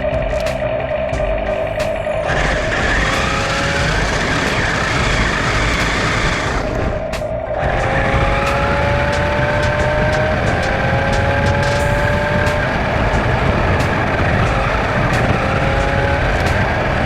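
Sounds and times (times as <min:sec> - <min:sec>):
wheel and ground rush: 0:00.0 - 0:17.0
electric motors whining: 0:01.5 - 0:17.0.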